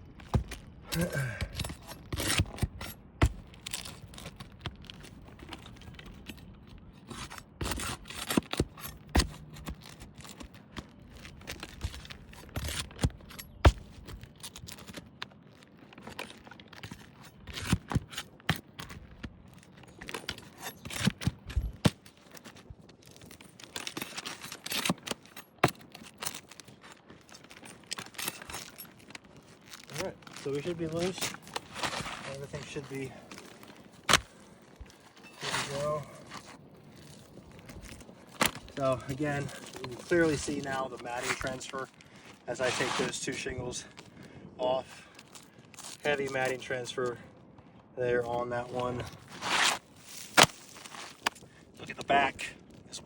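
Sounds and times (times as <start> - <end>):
shingles scraping and tearing: 0.0 - 47.1, 48.0 - 53.0.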